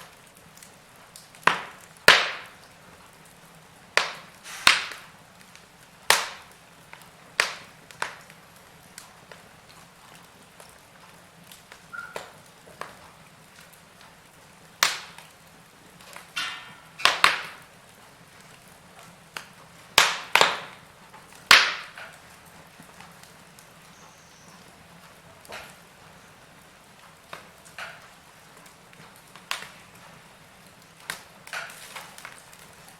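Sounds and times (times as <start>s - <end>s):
faint steady hiss: 0.0s - 32.9s
wood fire crackling and popping: 0.0s - 32.9s.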